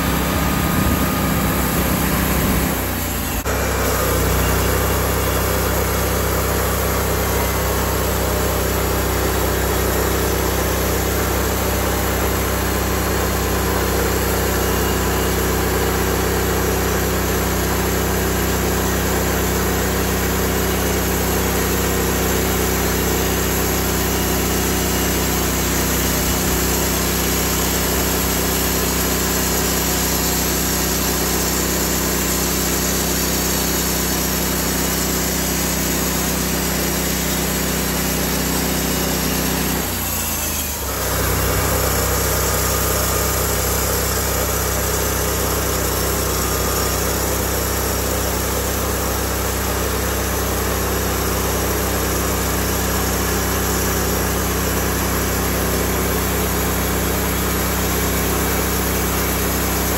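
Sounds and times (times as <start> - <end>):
band blade sawing log: 0.0 - 59.9
sawmill engine running: 0.0 - 59.9.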